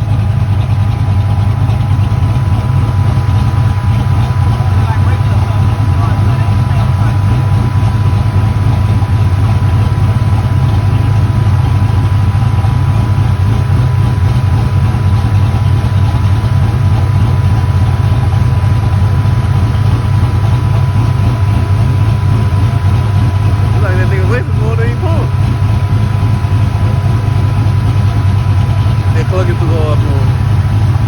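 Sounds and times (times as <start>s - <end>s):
engine humming with high tone: 0.0s - 31.0s.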